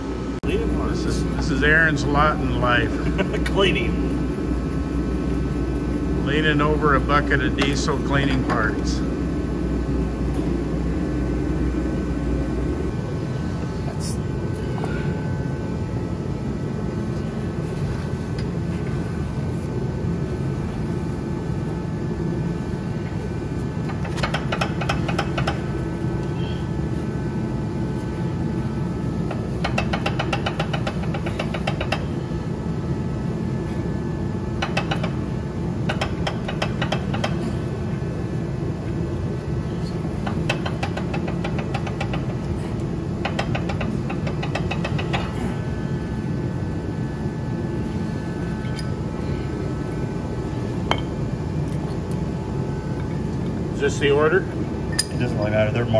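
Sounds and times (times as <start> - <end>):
low machine drone: 0.0 - 55.9.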